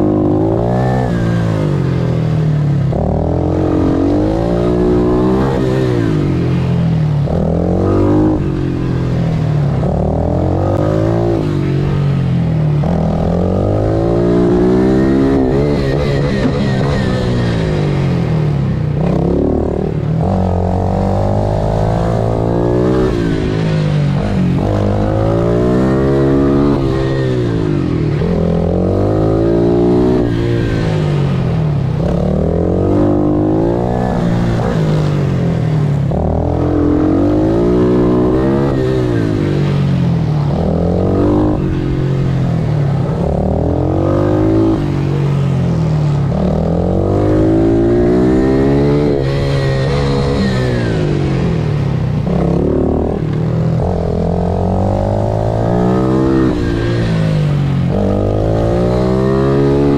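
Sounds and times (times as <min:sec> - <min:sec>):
motorbike engine racing: 0:00.0 - 0:59.9.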